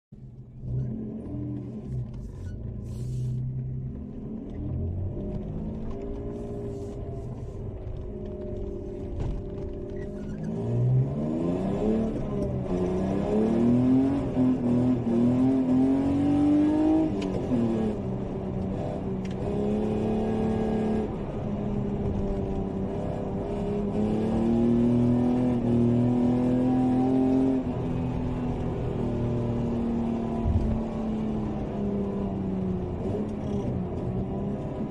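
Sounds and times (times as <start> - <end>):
car engine revving: 0.4 - 34.9.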